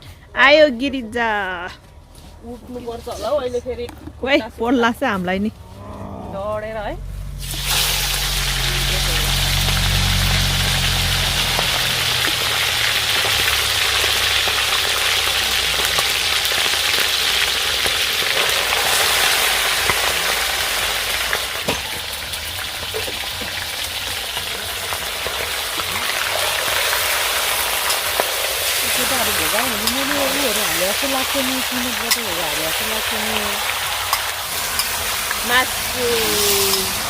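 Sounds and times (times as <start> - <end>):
meat sizzling in a pot: 7.2 - 37.0.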